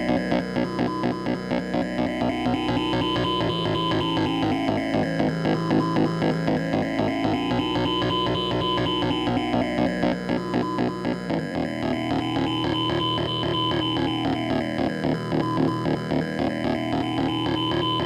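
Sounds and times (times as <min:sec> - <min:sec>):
pulsing electronic tones: 0:00.8 - 0:18.0.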